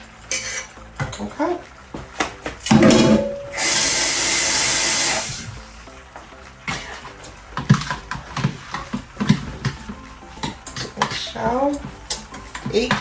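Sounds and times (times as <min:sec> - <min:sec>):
dishes and utensils clinking: 0:00.0 - 0:13.0.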